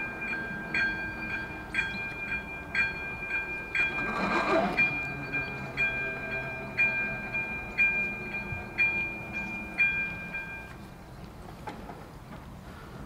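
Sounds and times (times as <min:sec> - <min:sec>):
level crossing bell ringing: 0:00.0 - 0:10.7.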